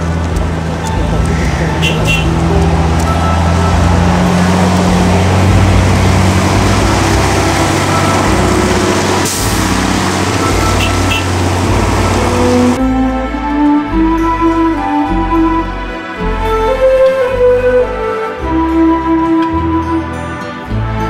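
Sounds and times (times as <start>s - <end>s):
bus engine humming: 0.0s - 21.0s.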